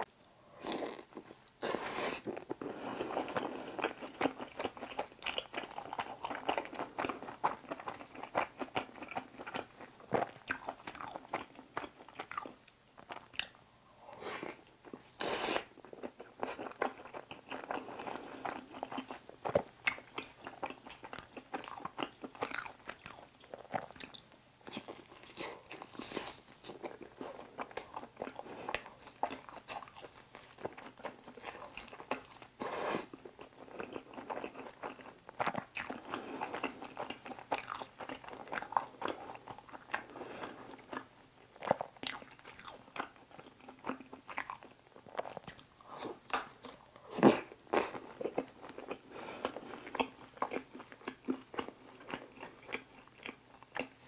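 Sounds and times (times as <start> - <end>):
person chewing food: 0.2 - 54.0.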